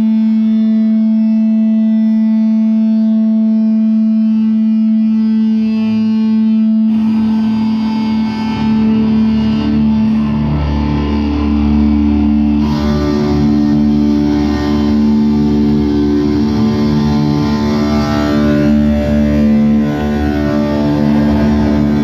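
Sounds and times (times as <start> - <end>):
distorted electric guitars: 0.0 - 22.0.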